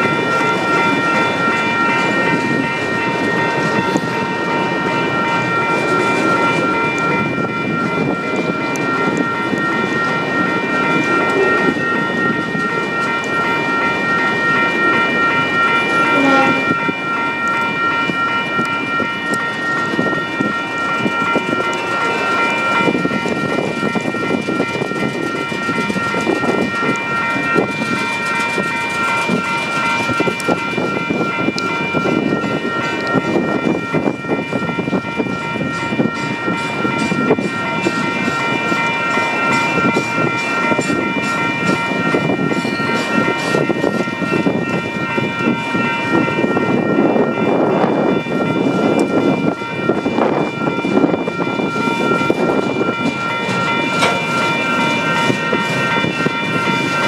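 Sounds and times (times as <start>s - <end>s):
high-pitched ringing tones: 0.0s - 57.0s
train wheels rumbling on rail: 0.0s - 57.0s.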